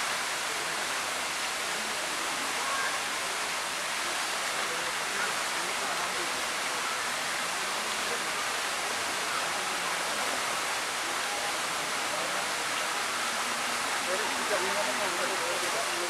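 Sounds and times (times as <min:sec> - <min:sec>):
water fountain splashing: 0:00.0 - 0:16.0.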